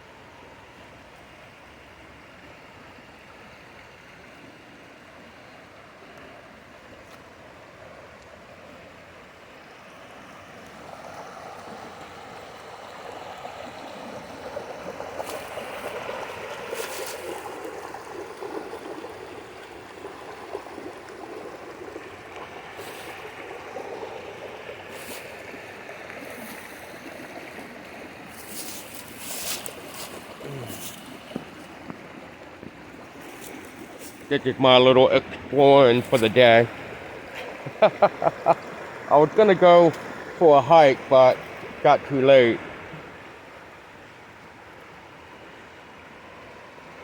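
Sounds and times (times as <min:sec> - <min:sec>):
stream water running: 0:00.0 - 0:47.0.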